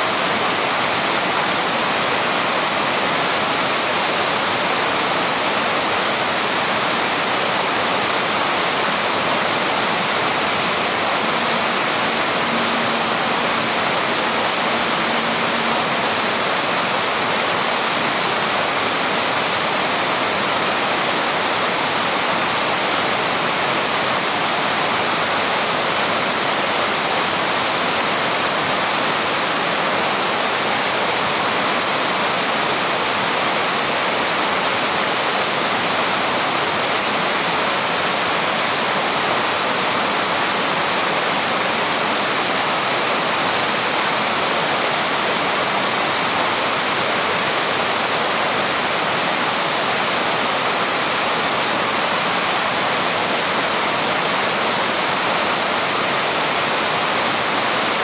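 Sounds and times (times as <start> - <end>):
waterfall splashing over rocks: 0.0 - 58.0.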